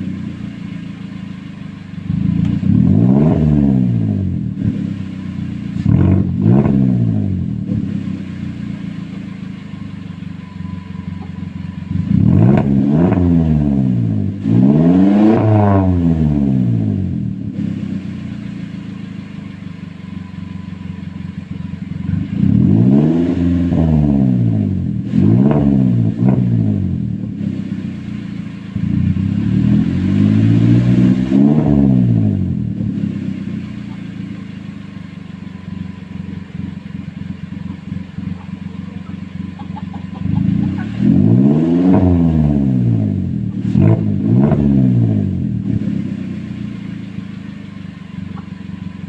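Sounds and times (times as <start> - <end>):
pickup engine revving: 0.0 - 49.0.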